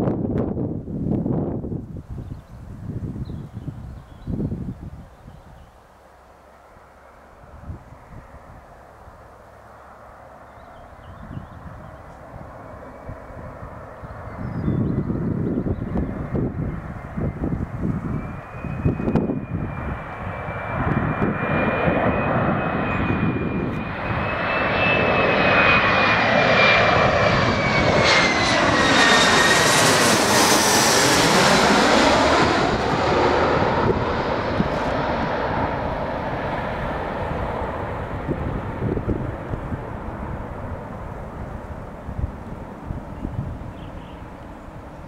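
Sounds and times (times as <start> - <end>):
jet plane passing: 6.0 - 45.0.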